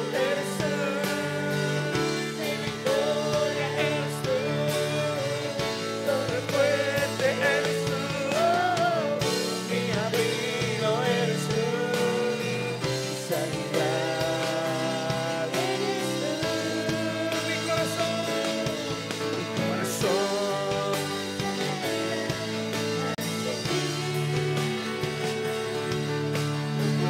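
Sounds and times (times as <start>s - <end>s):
person singing worship music: 0.0s - 27.0s.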